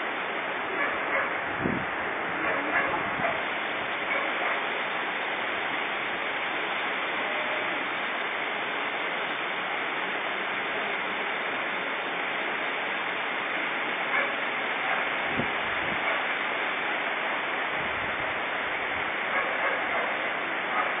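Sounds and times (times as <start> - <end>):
flooding river rushing: 0.0 - 21.0.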